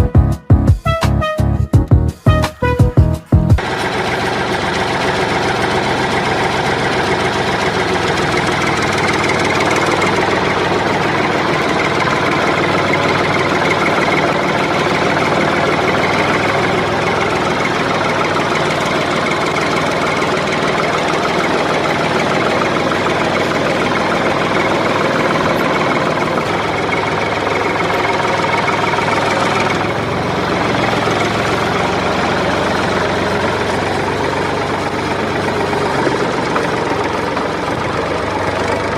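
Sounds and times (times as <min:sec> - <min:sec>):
tractor engine knocking: 0:03.0 - 0:38.9.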